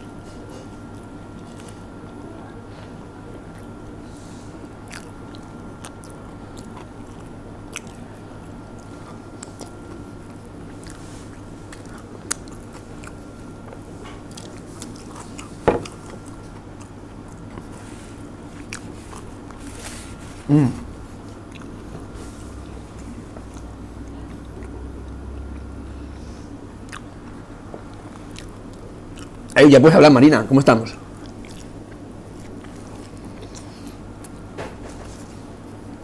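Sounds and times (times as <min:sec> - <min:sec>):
low room hum: 0:00.0 - 0:36.0
chewing: 0:00.3 - 0:02.3, 0:03.3 - 0:04.0, 0:04.6 - 0:20.2, 0:21.2 - 0:29.6, 0:31.2 - 0:34.4.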